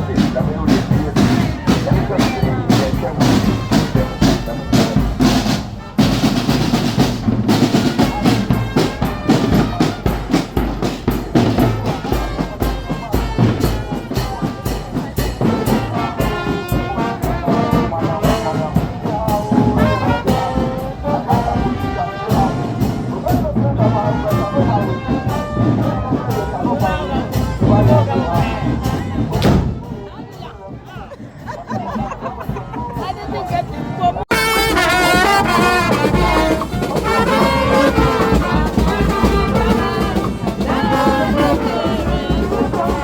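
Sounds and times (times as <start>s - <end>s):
trumpets and trombones playing: 0.0s - 30.0s, 34.2s - 43.0s
steady drumbeat: 0.0s - 43.0s.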